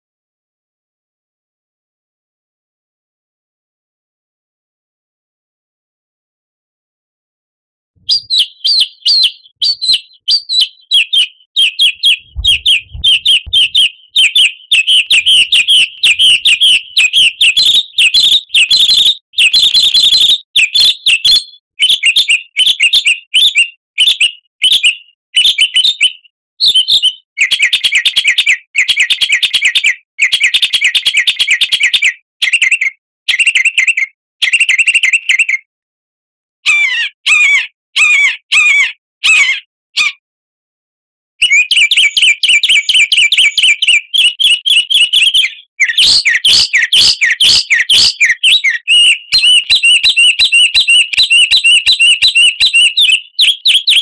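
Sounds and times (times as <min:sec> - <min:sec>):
songbird chirping and trilling: 0:08.0 - 0:35.7, 0:36.7 - 0:40.2, 0:41.4 - 0:54.0.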